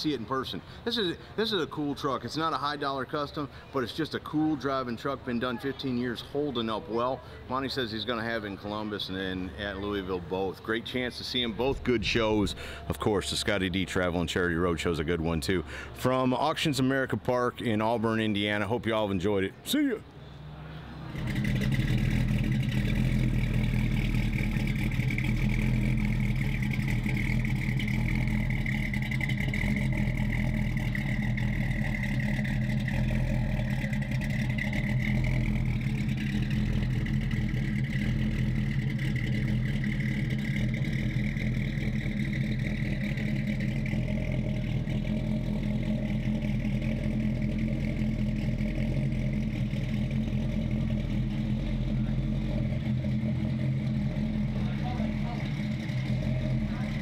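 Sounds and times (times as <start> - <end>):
pickup truck engine running low: 0.0 - 57.0.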